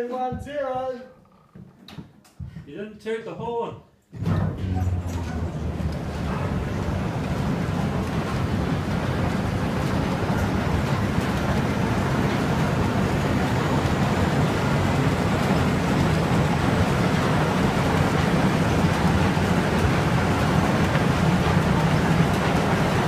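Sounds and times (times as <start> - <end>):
mill machinery rumbling: 4.2 - 23.0.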